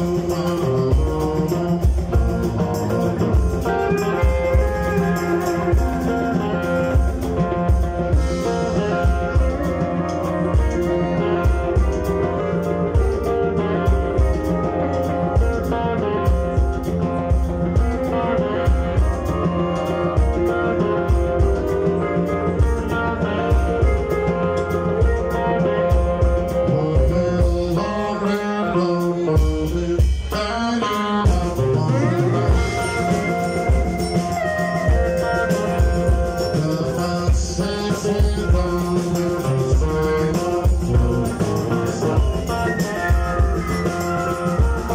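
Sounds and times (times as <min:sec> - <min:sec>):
drum kit: 0:00.0 - 0:44.9
electric bass: 0:00.0 - 0:44.9
electric guitars: 0:00.0 - 0:44.9.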